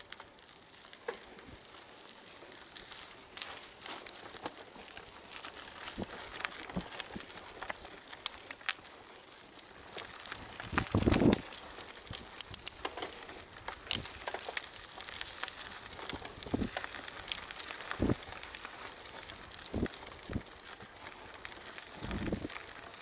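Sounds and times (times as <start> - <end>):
bicycle bump and rattle: 0.0 - 23.0
bicycle tyres crunching on gravel: 0.0 - 23.0.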